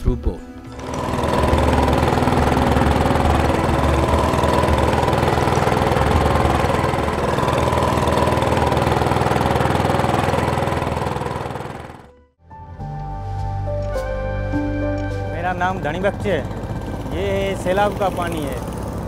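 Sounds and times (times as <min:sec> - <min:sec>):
boat engine running: 0:00.7 - 0:12.2, 0:15.2 - 0:19.0.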